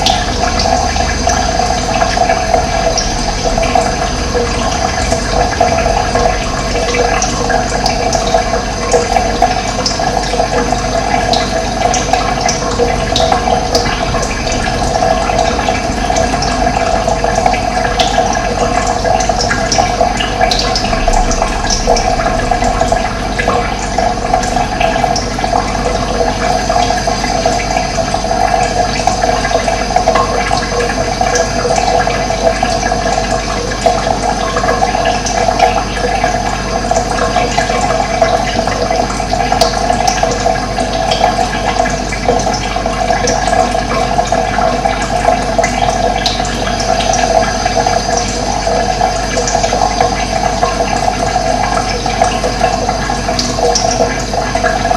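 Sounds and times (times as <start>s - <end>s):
running water: 0.0s - 54.9s.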